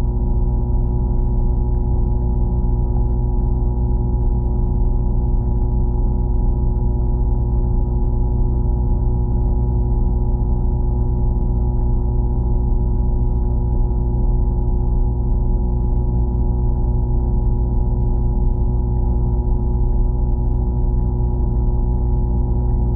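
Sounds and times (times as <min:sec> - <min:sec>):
low droning hum: 0:00.0 - 0:22.9.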